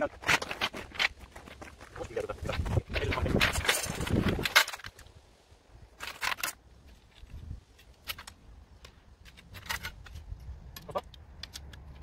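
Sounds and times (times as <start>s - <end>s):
metal poles clinking and rattling: 0.0s - 5.1s, 5.9s - 12.0s.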